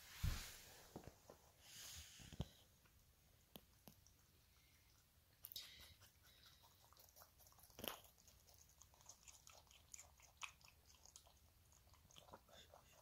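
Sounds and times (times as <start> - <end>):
rabbit chewing crunching: 2.4 - 13.0.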